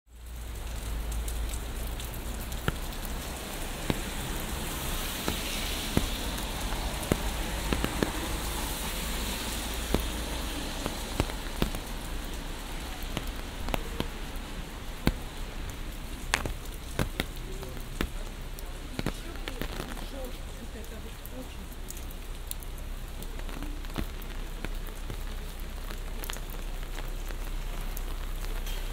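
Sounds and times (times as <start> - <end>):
low city rumble: 0.1 - 28.9
rain hiss: 0.1 - 28.9
raindrops tapping an umbrella: 0.1 - 28.9.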